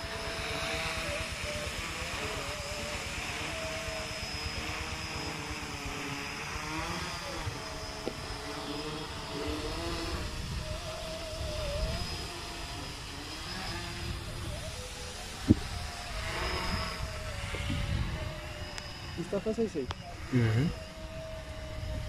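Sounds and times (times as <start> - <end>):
quadcopter propellers buzzing: 0.0 - 22.0
wind rumbling on microphone: 0.0 - 22.0.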